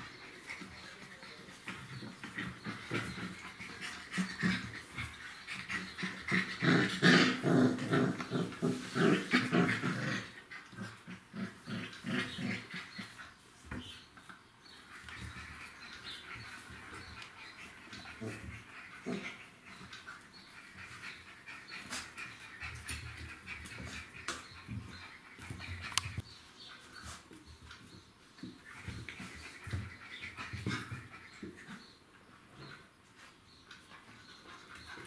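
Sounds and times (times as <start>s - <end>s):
puppies growling and yapping: 0.0s - 13.9s, 14.8s - 32.9s.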